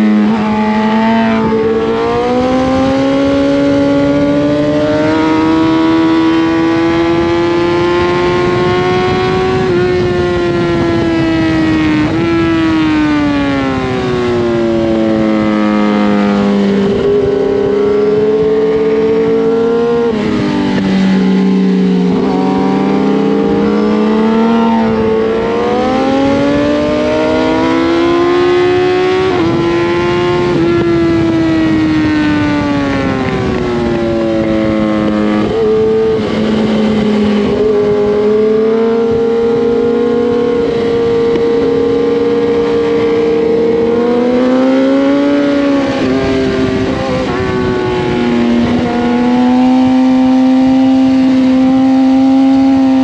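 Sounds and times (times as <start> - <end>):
motorcycle engine at high revs: 0.0 - 53.0
wind rush: 0.0 - 53.0.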